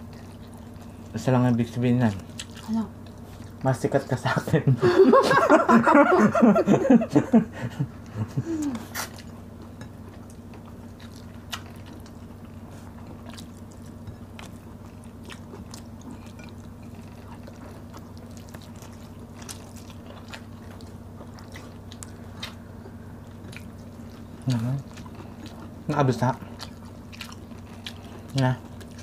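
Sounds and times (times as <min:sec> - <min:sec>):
soft chewing: 0:00.0 - 0:04.2, 0:07.9 - 0:29.0
steady low hum: 0:00.0 - 0:29.0.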